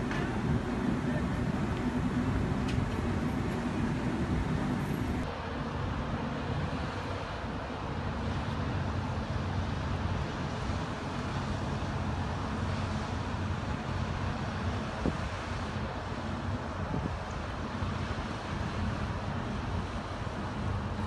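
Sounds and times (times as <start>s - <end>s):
low engine rumble: 0.0s - 21.0s
waterfront background noise: 0.0s - 21.0s.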